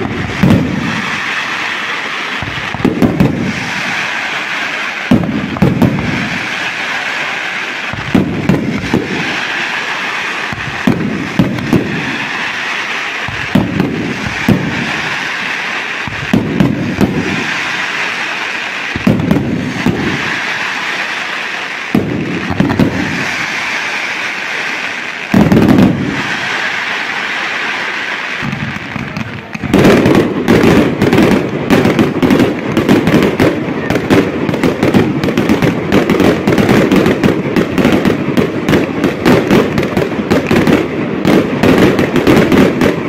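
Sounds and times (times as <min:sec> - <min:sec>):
fireworks crackling: 0:00.0 - 0:43.0
fireworks shells booming: 0:00.0 - 0:43.0.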